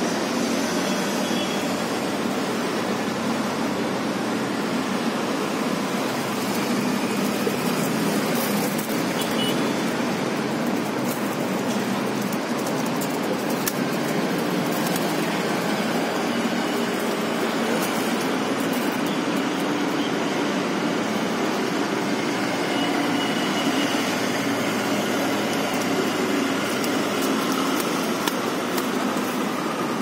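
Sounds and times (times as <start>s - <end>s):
city traffic hum: 0.0s - 30.0s.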